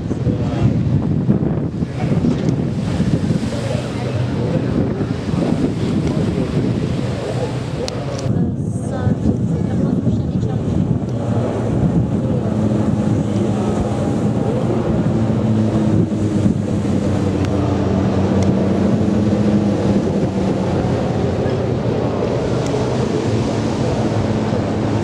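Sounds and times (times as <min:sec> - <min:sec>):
propeller airplane droning: 0:00.0 - 0:25.0
wind buffeting microphone: 0:00.0 - 0:25.0.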